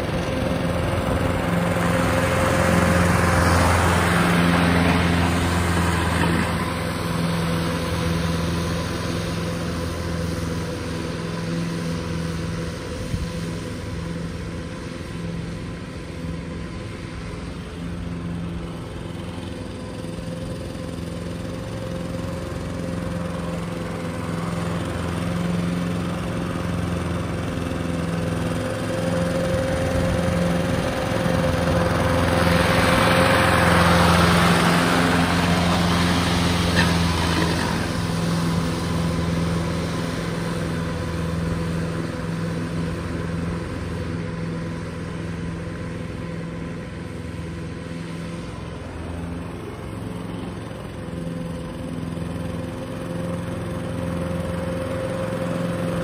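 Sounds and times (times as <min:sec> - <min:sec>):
lawn mower cutting grass: 0:00.0 - 0:56.0.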